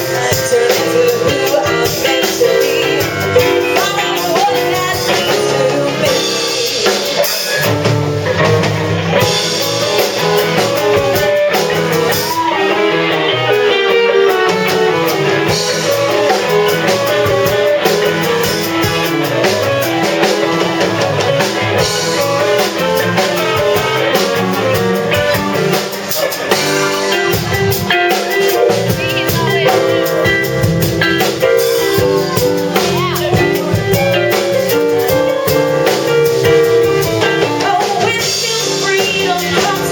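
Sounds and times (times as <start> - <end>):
band playing: 0.0 - 39.9
drum kit: 0.0 - 39.9
guitar: 0.0 - 39.9.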